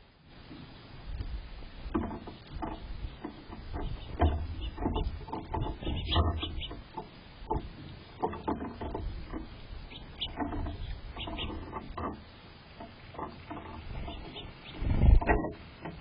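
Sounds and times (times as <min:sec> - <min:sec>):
birds foraging taps and rustles: 0:00.4 - 0:16.0.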